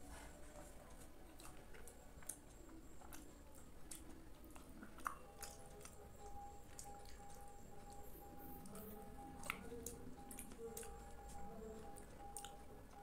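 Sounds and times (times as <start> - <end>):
wet chewing of rice pudding: 0.0 - 13.0.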